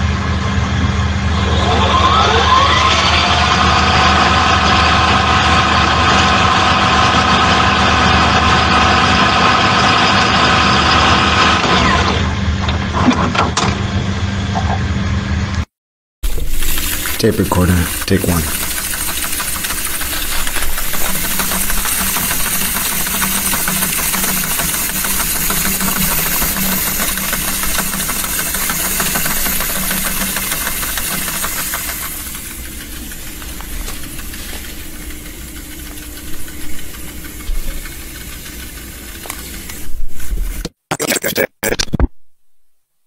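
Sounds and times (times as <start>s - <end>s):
tape recorder rewinding: 1.2s - 13.4s, 16.2s - 41.3s.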